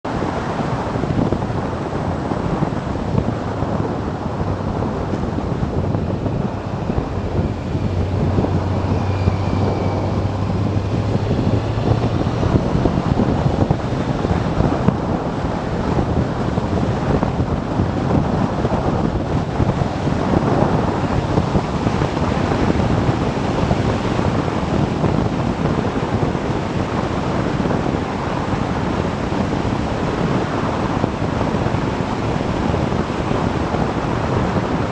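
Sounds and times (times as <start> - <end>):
motorcycle engine hum: 0.0 - 34.9
wind rushing over microphone: 0.0 - 34.9.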